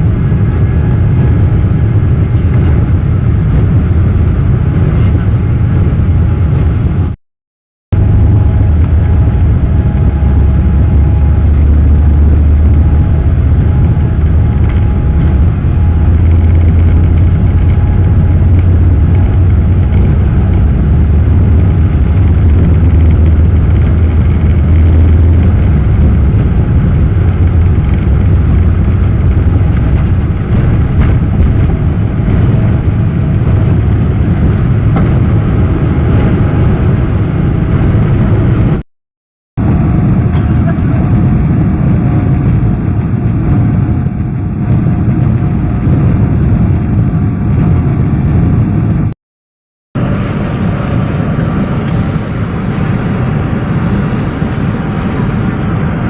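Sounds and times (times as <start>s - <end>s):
jet engine rumble in cabin: 0.0s - 7.2s, 7.9s - 38.8s, 39.6s - 49.2s, 50.0s - 56.0s.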